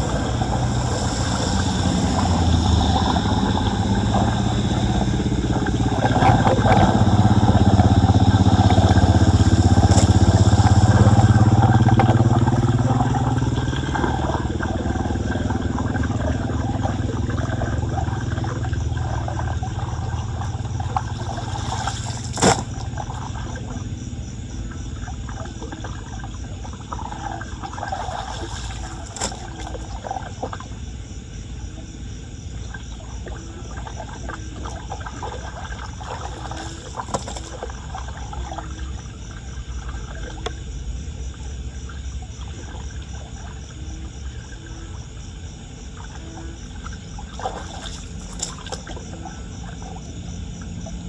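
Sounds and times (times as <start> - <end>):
floodwater draining into street drain: 0.0 - 51.0
water splashing: 0.0 - 51.0.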